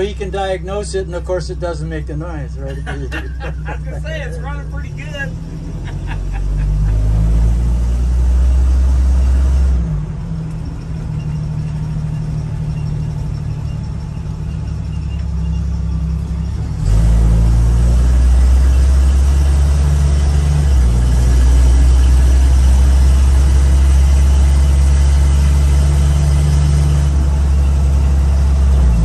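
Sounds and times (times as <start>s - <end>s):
car engine rumble from inside cab: 0.0s - 29.0s.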